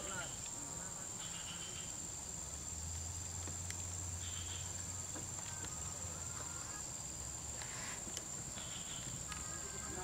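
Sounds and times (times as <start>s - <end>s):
high-pitched insect drone: 0.0s - 2.8s, 3.9s - 10.0s
car engine humming: 0.0s - 10.0s.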